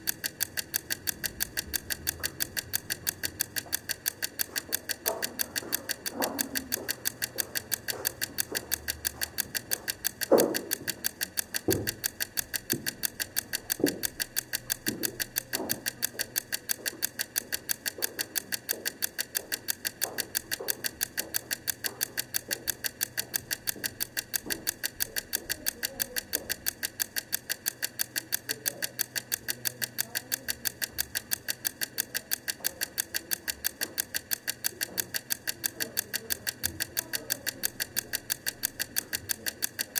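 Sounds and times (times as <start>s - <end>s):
egg timer ticking: 0.0s - 39.9s.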